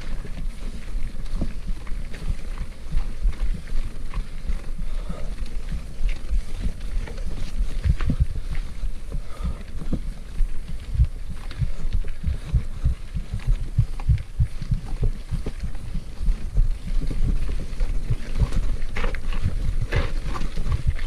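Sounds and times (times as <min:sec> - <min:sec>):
light clicks from bike and stones: 0:00.0 - 0:21.0.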